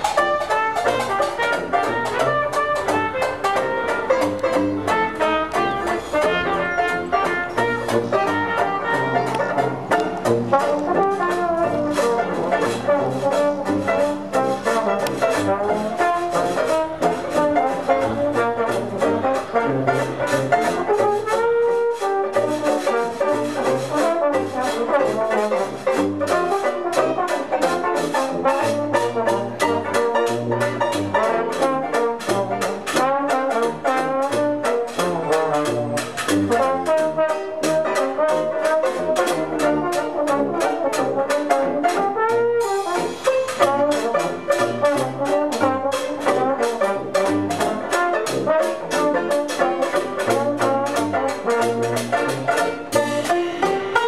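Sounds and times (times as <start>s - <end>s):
brass-led jazz music: 0.0s - 54.0s.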